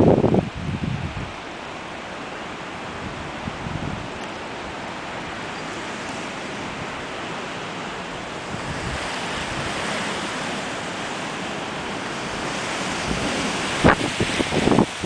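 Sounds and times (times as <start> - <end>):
wind buffeting microphone: 0.0 - 1.5, 2.1 - 15.0
strong wind blowing: 0.0 - 15.0.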